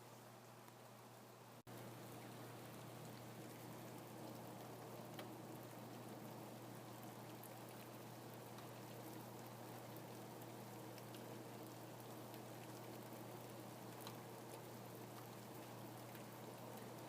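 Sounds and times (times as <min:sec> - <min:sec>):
low steady hum: 0:00.0 - 0:17.0
rain patter: 0:00.0 - 0:17.0.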